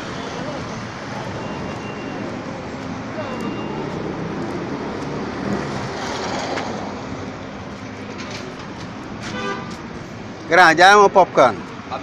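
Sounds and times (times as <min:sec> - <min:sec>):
urban noise: 0:00.0 - 0:12.0.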